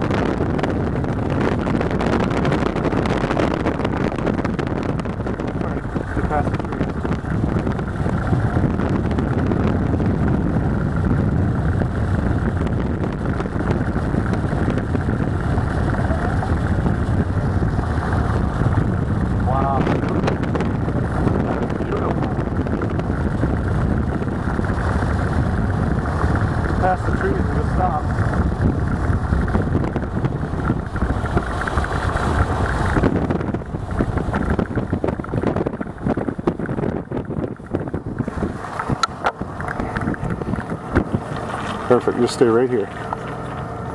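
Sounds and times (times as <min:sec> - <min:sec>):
car road and engine noise: 0:00.0 - 0:43.9
wind on microphone: 0:00.0 - 0:43.9.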